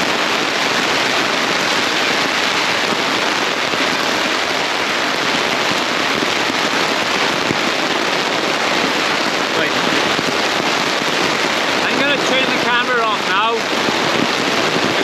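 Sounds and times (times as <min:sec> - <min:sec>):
rain drumming on tent fabric: 0:00.0 - 0:15.0.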